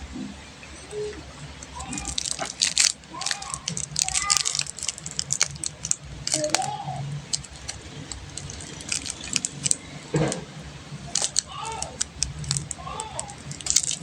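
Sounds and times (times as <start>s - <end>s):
plastic wrappers crinkling: 1.6s - 14.0s.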